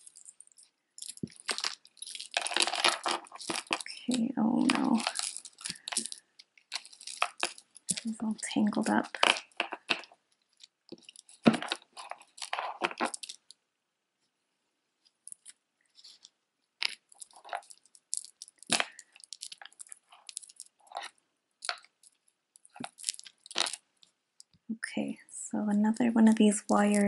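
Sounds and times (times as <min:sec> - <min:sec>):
beaded necklaces clicking and rattling: 0:00.0 - 0:13.6, 0:15.0 - 0:27.0.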